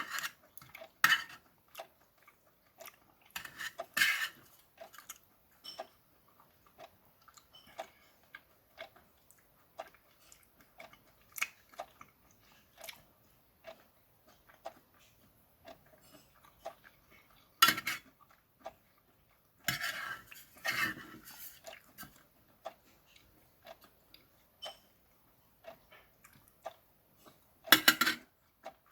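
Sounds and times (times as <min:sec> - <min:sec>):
person chewing with mouth smacks: 0:00.2 - 0:27.5.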